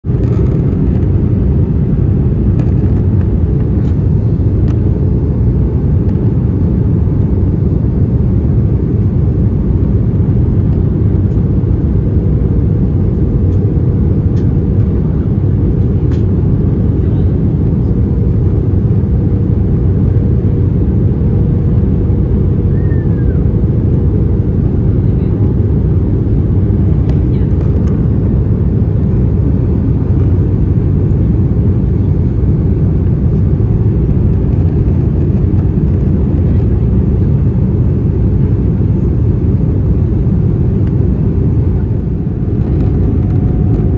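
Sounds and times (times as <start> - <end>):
airplane cabin rumble: 0.0 - 43.9
faint constant hum: 0.1 - 43.9.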